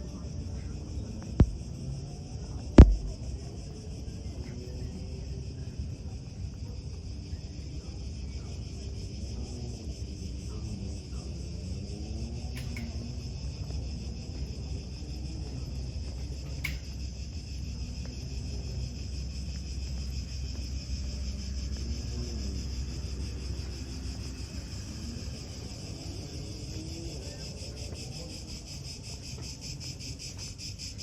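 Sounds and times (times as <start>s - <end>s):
faint distant voices: 0.0s - 31.0s
high-pitched insect chorus: 0.0s - 31.0s
low rumble: 0.3s - 27.6s.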